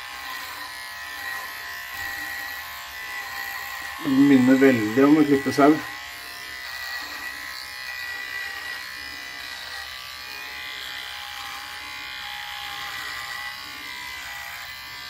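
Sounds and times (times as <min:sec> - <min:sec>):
electric beard trimmer buzzing: 0:00.0 - 0:15.0.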